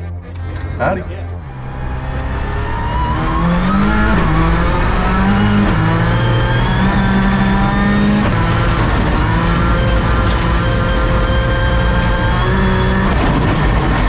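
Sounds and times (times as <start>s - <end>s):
car engine accelerating hard: 1.4s - 14.0s.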